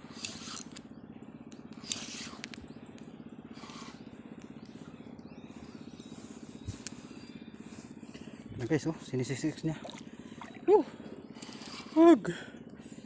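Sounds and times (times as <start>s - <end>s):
small boat engine putter: 0.0s - 13.0s.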